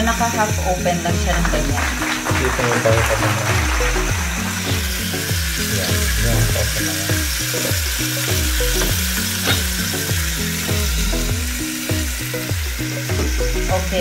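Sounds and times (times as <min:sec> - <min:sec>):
chicken frying with sizzle: 0:00.0 - 0:14.0
repeating low tones: 0:01.2 - 0:13.8.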